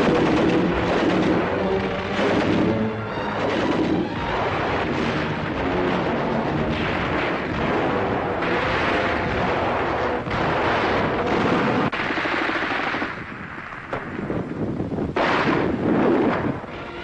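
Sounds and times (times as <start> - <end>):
machine-gun fire: 0.0 - 14.2, 15.2 - 16.6.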